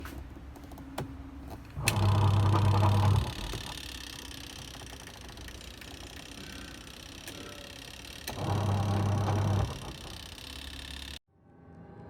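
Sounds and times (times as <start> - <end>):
electrical hum: 0.0 - 11.2.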